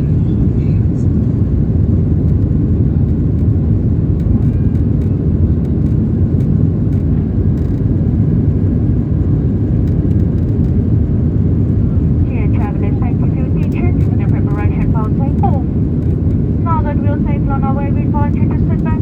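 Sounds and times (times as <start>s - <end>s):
airplane cabin engine roar: 0.0s - 19.0s.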